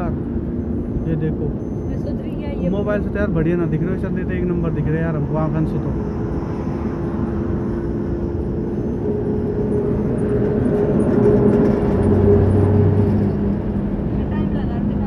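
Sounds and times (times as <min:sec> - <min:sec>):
car engine hum: 0:00.0 - 0:15.0
road and tyre noise: 0:00.0 - 0:15.0.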